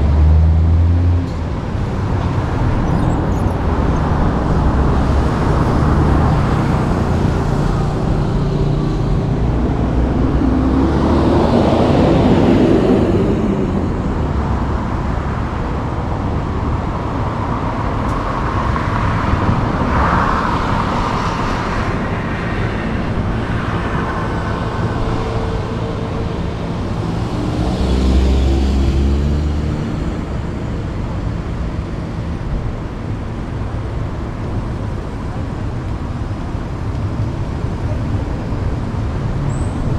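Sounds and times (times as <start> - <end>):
vehicle with deep rumble: 0.0 - 39.9
vehicles passing: 0.0 - 39.9.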